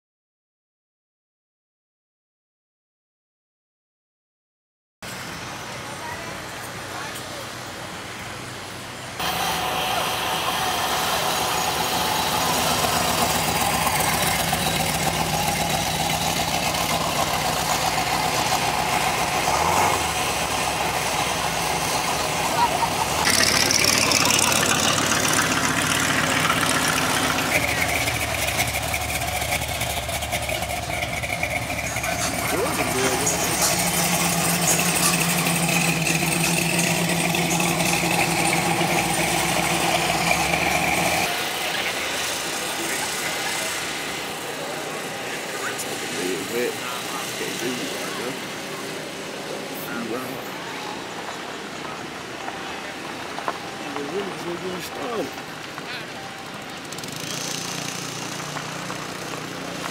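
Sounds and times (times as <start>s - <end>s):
car engine idling: 5.6s - 59.9s.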